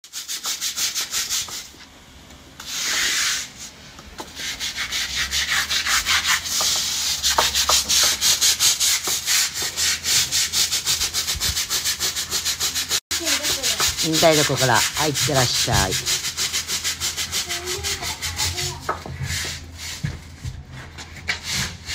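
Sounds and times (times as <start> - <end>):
brush scrubbing wet concrete: 0.0 - 1.8, 2.6 - 3.7, 4.3 - 20.2.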